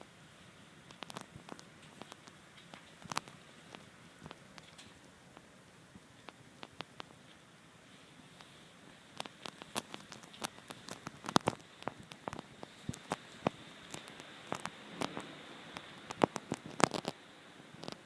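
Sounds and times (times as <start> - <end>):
faint hiss: 0.0 - 18.0
small clicks and taps: 0.9 - 5.5, 6.2 - 7.4, 8.4 - 17.2, 17.8 - 18.0.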